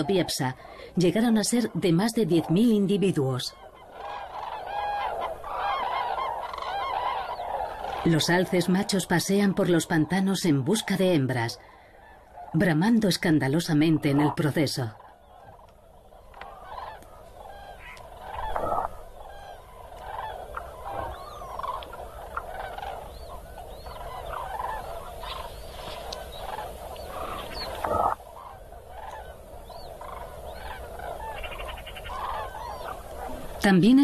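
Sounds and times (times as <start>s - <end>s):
flock of birds calling: 0.0s - 34.0s.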